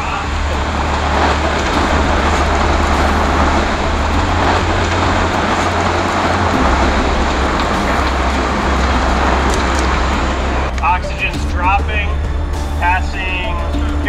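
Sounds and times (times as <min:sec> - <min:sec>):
fire crackling: 0:00.0 - 0:14.0
fire rumbling: 0:00.0 - 0:14.0.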